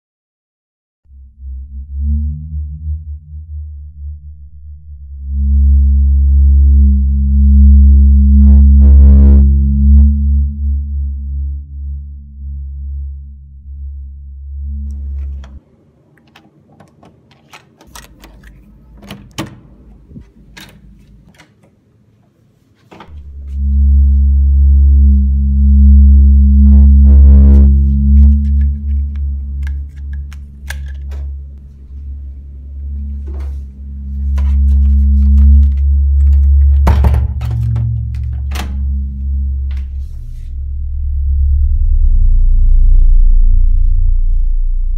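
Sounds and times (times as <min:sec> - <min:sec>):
deep steady drone: 0:01.1 - 0:15.6, 0:23.1 - 0:44.9
high buzzing sting: 0:01.1 - 0:15.6, 0:23.1 - 0:44.9.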